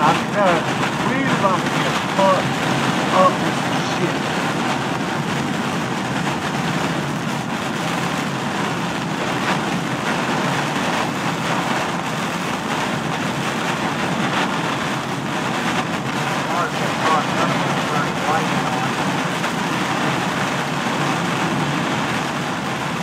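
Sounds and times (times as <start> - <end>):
heavy rain on car: 0.0 - 23.0
tyre spray on wet road: 0.0 - 23.0.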